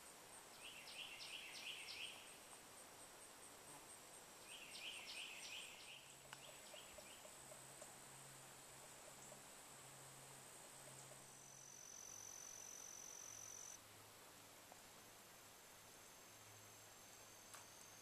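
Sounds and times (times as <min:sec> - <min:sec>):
songbird singing faintly: 0:00.0 - 0:18.0.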